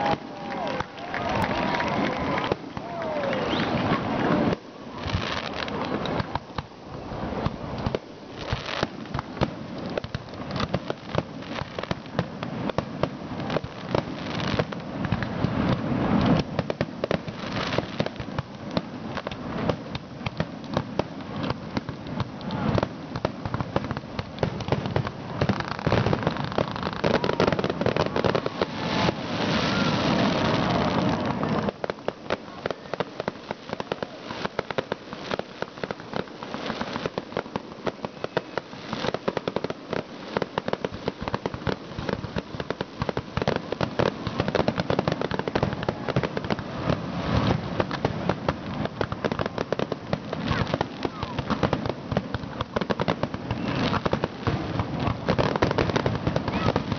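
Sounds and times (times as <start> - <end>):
fireworks booms: 0.0 - 56.9
fireworks crackling: 0.0 - 56.9.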